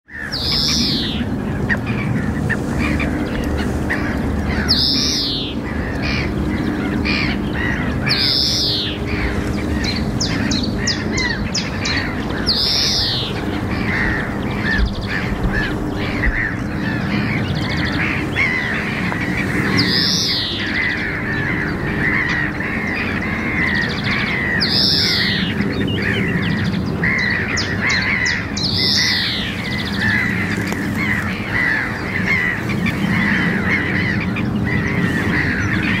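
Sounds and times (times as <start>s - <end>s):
small birds chirping: 0.1s - 36.0s.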